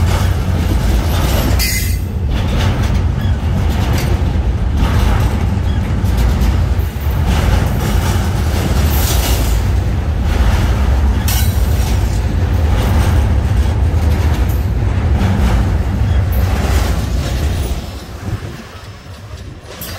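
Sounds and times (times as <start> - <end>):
steel wheels rumbling on rails: 0.0 - 19.9.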